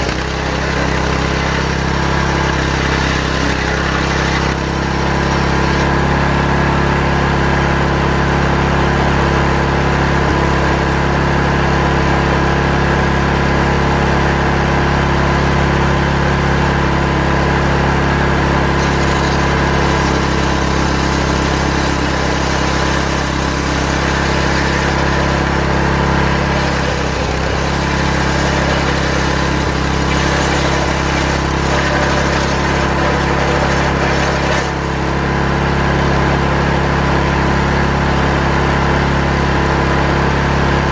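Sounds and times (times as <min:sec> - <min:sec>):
saw engine running: 0:00.0 - 0:40.9.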